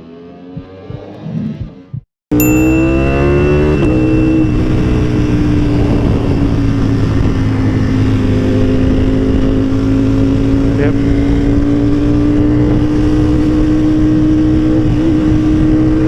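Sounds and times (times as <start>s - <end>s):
motorcycle engine running: 2.4s - 16.0s.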